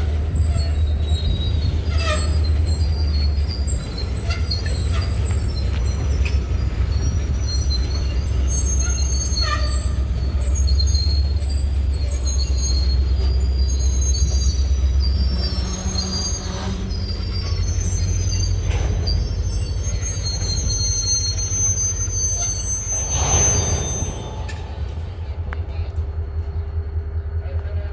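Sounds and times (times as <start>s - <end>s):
freight train rumble: 0.0s - 27.9s
train wheels squealing on rails: 0.0s - 27.9s.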